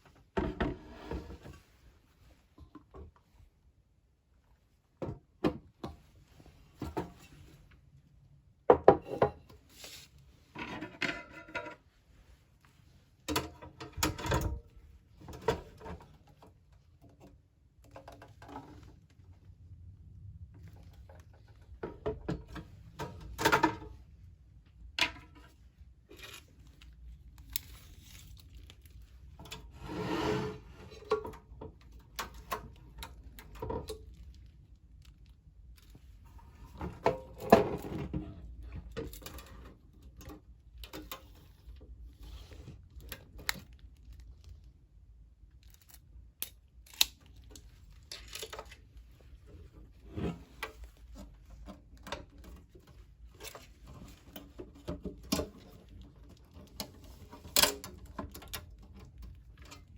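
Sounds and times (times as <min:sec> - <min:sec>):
objects handled with clicks and knocks: 0:00.0 - 0:03.6, 0:04.9 - 0:07.9, 0:08.7 - 0:19.4, 0:20.5 - 0:29.9, 0:30.5 - 0:59.9.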